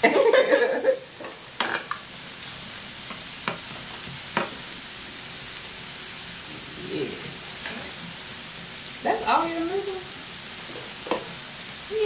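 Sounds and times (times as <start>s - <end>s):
food sizzling on a grill plate: 0.0s - 12.0s.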